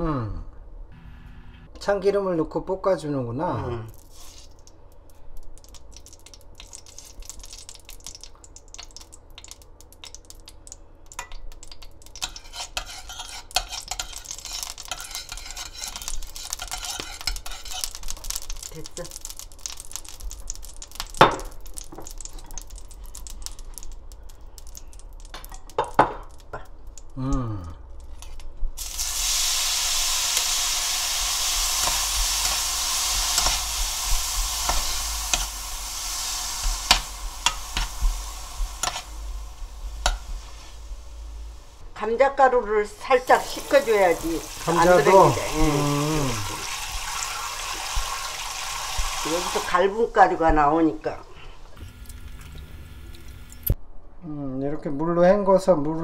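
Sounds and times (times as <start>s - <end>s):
food sizzling in hot oil: 3.9s - 4.7s, 5.4s - 27.1s, 28.2s - 41.9s, 42.5s - 53.8s
oil crackling in a pot: 3.9s - 41.9s, 42.6s - 53.8s.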